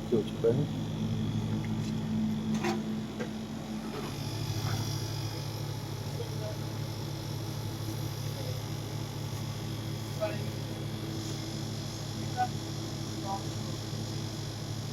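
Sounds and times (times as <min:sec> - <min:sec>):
dehumidifier humming: 0:00.0 - 0:14.9.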